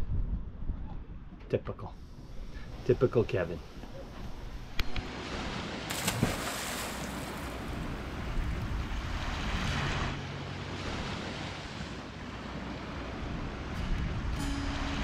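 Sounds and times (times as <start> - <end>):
wind noise on microphone: 0.0 - 2.8, 3.6 - 15.0
ocean waves: 2.2 - 15.0.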